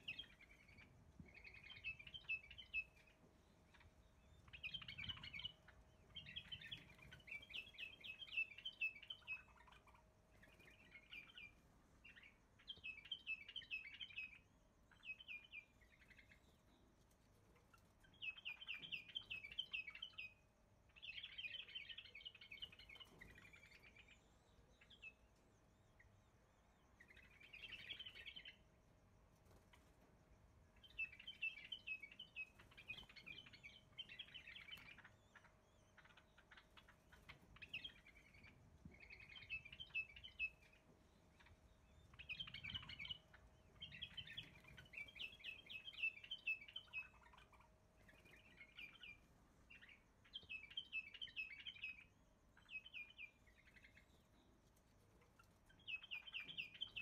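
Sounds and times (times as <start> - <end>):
faint steady hum: 0.0 - 57.0
small birds twittering: 0.0 - 57.0.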